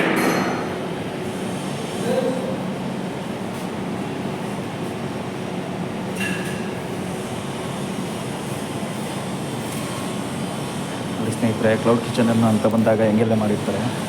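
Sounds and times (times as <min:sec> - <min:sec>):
steady mechanical noise: 0:00.0 - 0:14.0.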